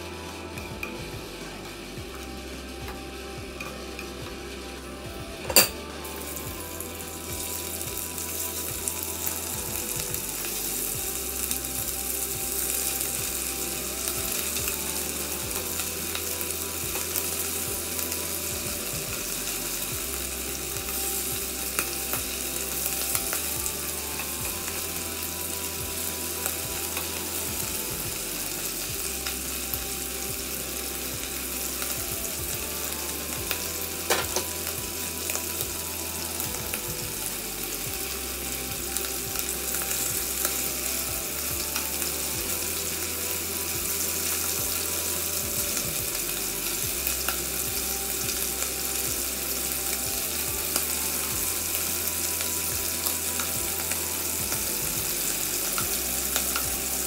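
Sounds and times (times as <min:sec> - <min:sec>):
meat sizzling in oil: 0:00.0 - 0:57.0.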